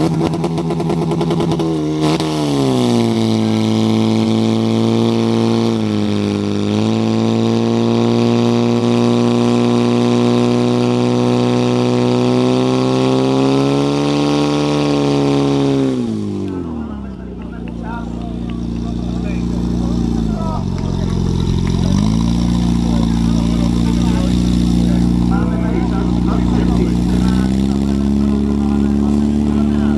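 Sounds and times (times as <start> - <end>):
pump engine at high revs: 0.0 - 29.9.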